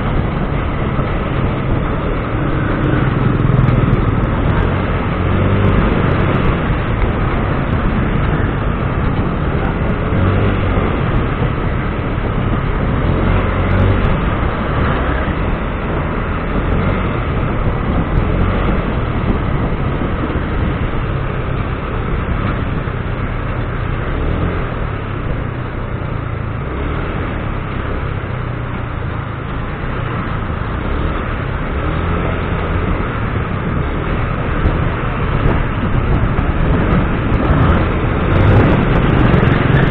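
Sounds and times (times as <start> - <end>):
motor vehicle running: 0.0 - 39.9.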